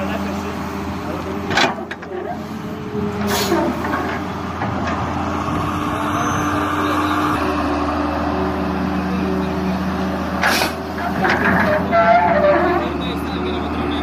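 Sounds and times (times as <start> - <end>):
excavator diesel engine under load: 0.0 - 14.0
hydraulics moving arm: 0.9 - 14.0.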